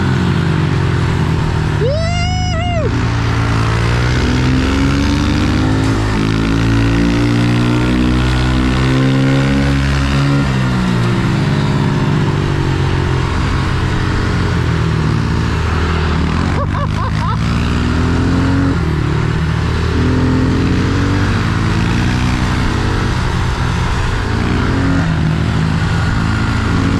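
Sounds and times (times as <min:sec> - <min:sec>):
small motorbike engine revving: 0:00.0 - 0:26.9.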